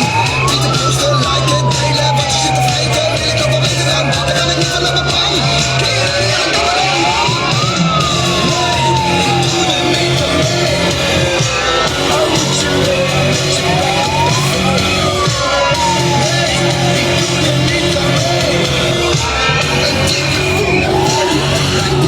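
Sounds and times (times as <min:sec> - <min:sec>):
crowd shouting: 0:00.0 - 0:22.0
loud music: 0:00.0 - 0:22.0
siren wailing: 0:00.0 - 0:22.0.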